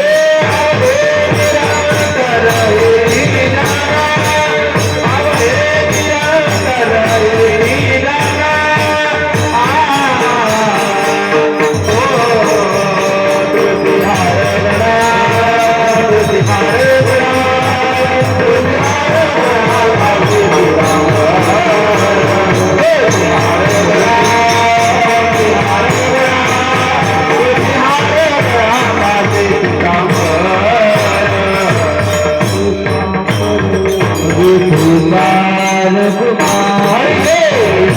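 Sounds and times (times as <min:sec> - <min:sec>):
drum beat: 0:00.0 - 0:37.9
jingling hand percussion: 0:00.0 - 0:37.9
person singing devotional song: 0:00.0 - 0:37.9.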